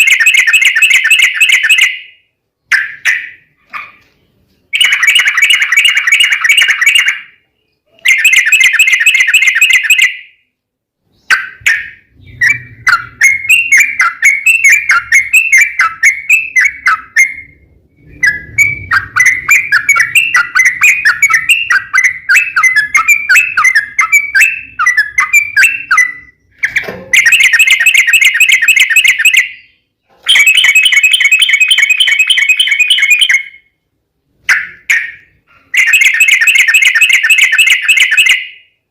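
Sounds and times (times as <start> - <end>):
bulbul chattering song: 0.0 - 38.8.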